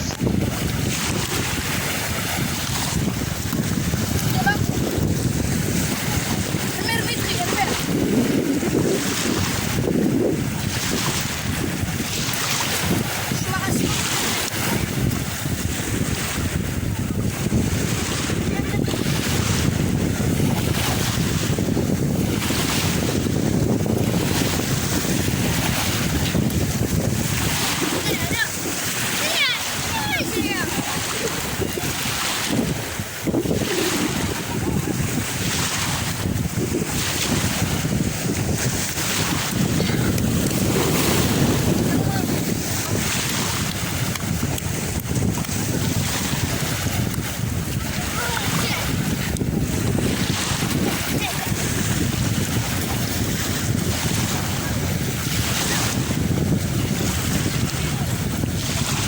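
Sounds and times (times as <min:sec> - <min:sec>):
surf washing onto beach: 0:00.0 - 0:59.0
wind buffeting microphone: 0:00.0 - 0:59.0.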